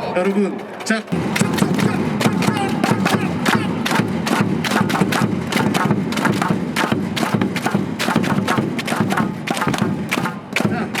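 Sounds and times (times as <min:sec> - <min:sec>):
crowd clapping along: 0:00.0 - 0:11.0
music over pa: 0:01.1 - 0:11.0.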